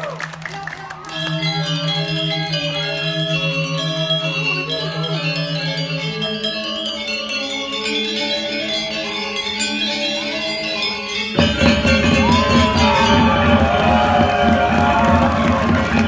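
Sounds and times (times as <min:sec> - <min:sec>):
gamelan ensemble playing: 0:00.3 - 0:16.0
ringing bronze metallophones: 0:00.8 - 0:16.0.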